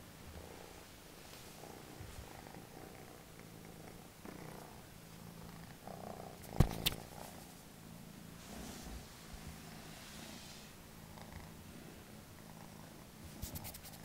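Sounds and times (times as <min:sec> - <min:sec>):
kitten purring: 0:00.2 - 0:14.0.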